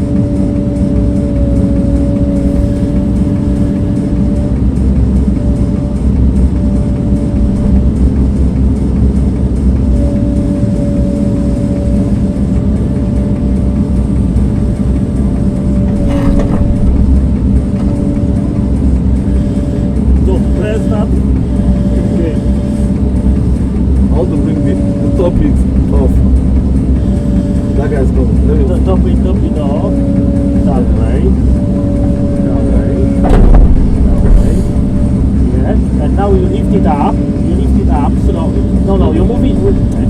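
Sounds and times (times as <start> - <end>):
heavy machine engine rumbling: 0.0 - 40.0
steady whine: 0.0 - 40.0.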